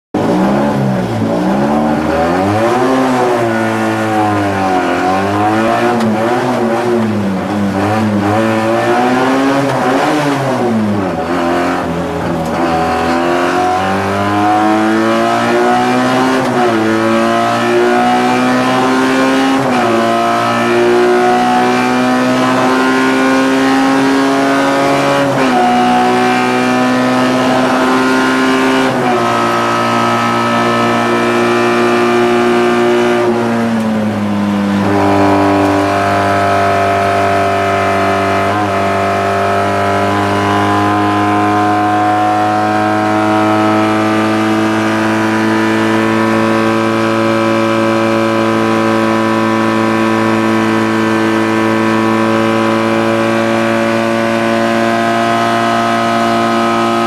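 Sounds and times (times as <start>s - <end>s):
race car engine revving: 0.1s - 57.0s.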